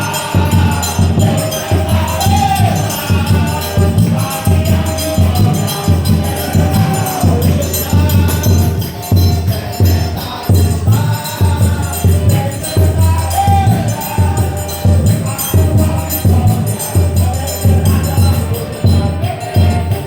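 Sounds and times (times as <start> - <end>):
fast beat with bass and percussion: 0.0 - 20.0
voices singing worship chorus: 0.0 - 20.0.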